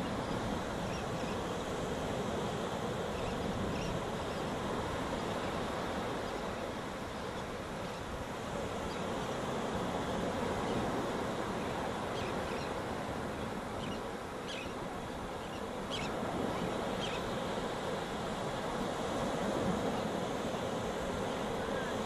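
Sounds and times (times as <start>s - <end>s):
surf washing up beach: 0.0s - 22.0s.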